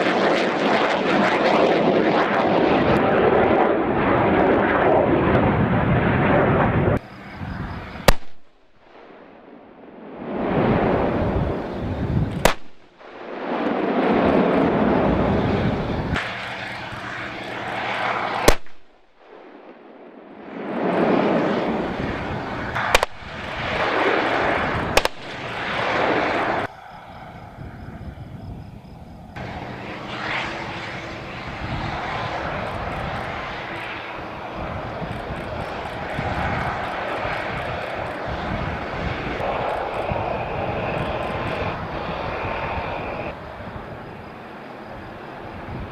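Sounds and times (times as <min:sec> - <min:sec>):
jet aircraft engines: 0:00.0 - 0:45.9.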